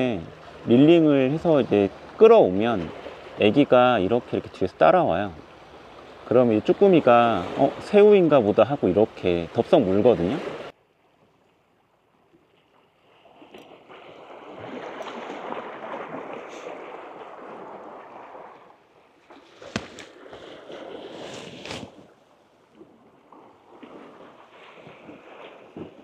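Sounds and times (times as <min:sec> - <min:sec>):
waves splashing against rocks: 0:00.0 - 0:10.7, 0:13.1 - 0:22.2, 0:23.2 - 0:26.0.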